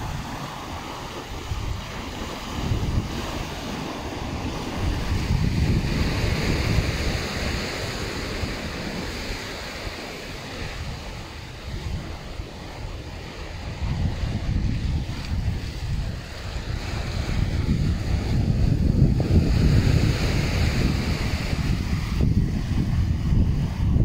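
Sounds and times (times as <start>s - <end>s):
surf washing against rocks: 0.0s - 24.0s
wind buffeting microphone: 0.0s - 24.0s.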